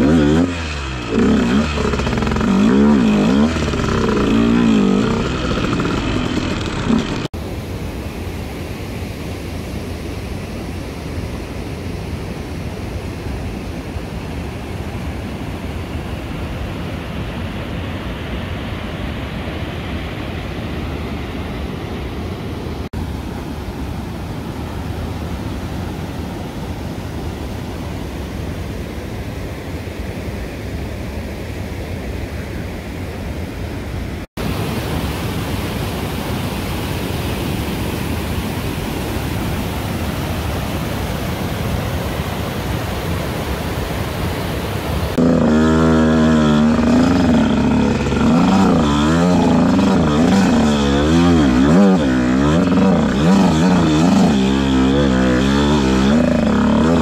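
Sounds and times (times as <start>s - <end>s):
creek rushing over rapids: 0.0s - 57.0s.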